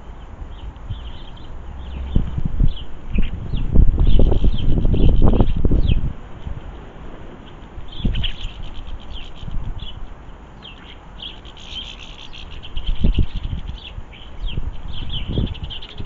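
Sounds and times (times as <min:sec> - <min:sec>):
wind gusts on microphone: 0:00.0 - 0:10.6, 0:12.3 - 0:16.0
songbirds twittering: 0:00.0 - 0:16.0.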